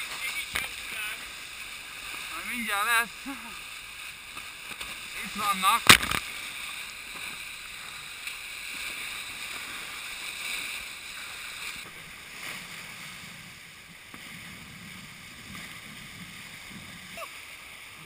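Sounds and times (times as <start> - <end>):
rush of wind and water: 0.0 - 18.0.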